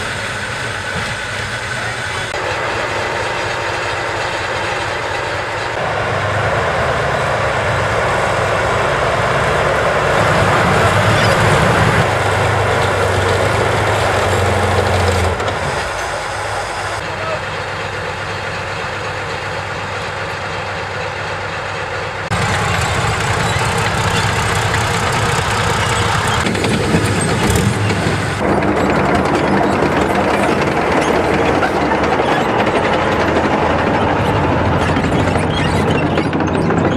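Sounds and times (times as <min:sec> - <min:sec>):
heavy tracked vehicle engine running: 0:00.0 - 0:36.9.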